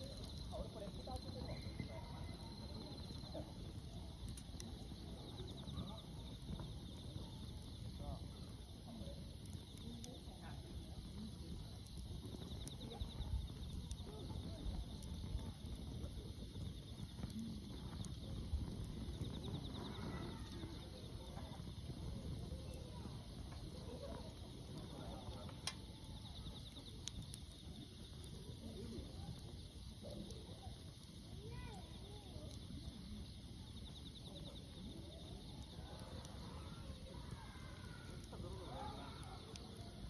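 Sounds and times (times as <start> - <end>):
campfire low rumble: 0.0 - 40.0
fire crackles and pops: 0.0 - 40.0.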